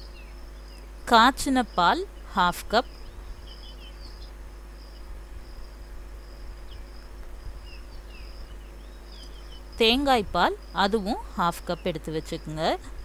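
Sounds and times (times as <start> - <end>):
insect chirping: 0.0 - 13.0
low constant hum: 0.0 - 13.0.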